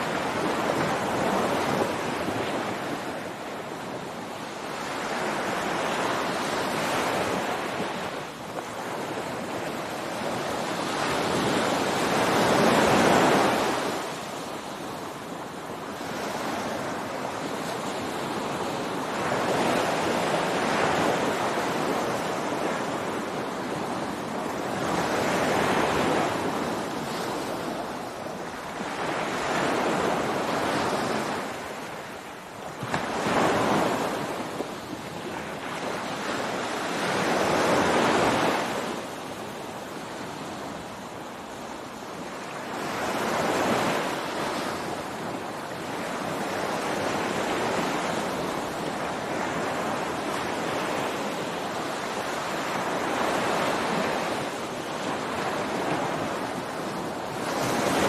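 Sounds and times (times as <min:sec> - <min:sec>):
waves breaking and washing in: 0:00.0 - 0:58.0.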